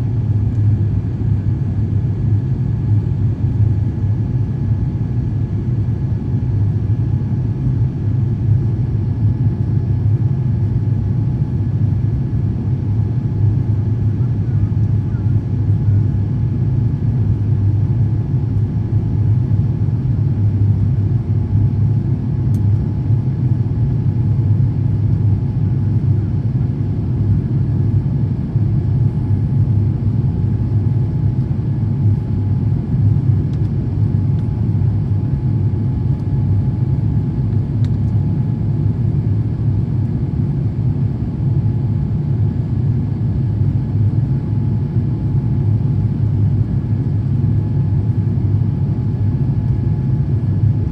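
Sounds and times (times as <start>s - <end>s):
aircraft engine rumble: 0.0s - 50.9s
faint constant hum: 0.0s - 50.9s.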